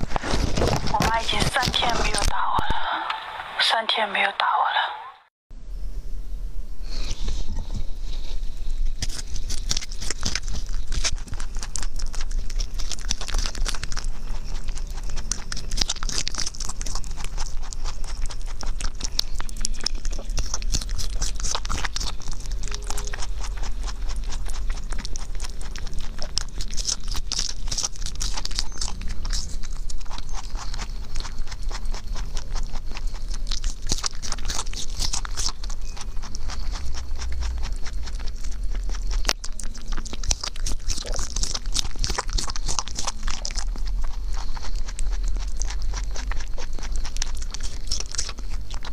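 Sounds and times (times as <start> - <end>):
rabbit chewing with crunching clicks: 0.0 - 2.4, 7.8 - 48.9.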